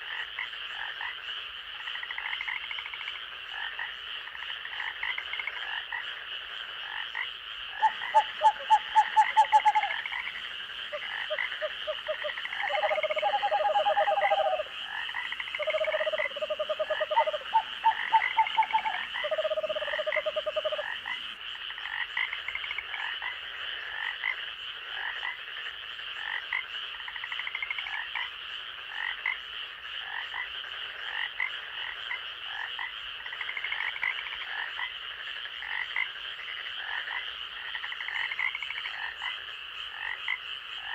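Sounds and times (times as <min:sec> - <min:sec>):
frogs pulsed calls: 0:00.0 - 0:40.9.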